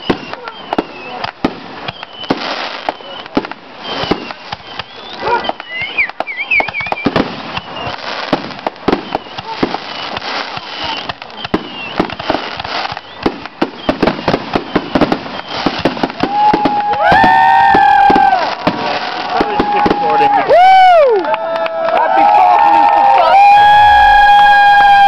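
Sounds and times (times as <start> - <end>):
fireworks bursting: 0.0 - 21.3.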